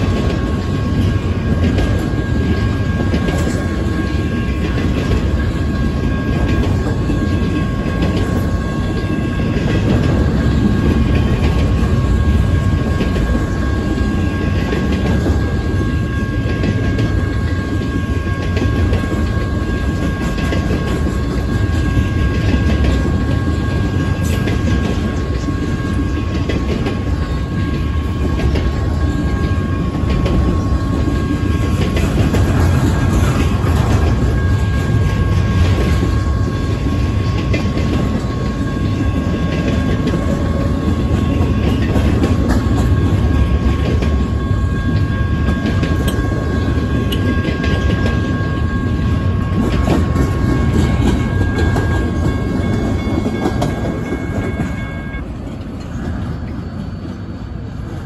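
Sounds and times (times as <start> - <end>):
steel wheels rumbling on rail: 0.0 - 58.0
wheels clickety-clack over rail joints: 0.0 - 58.0.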